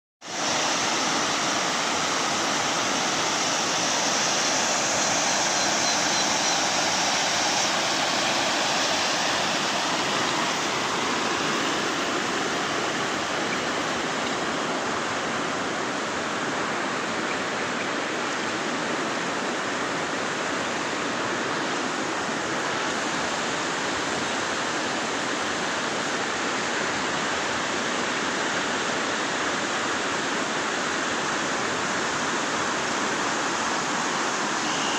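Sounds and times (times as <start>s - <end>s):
river rushing over rocks: 0.2s - 34.9s.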